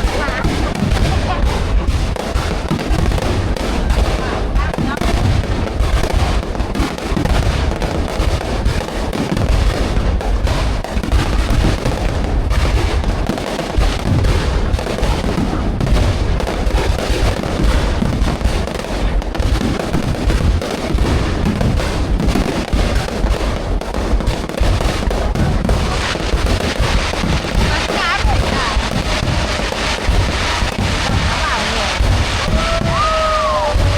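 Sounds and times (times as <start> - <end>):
fireworks cracking and booming: 0.0 - 33.9.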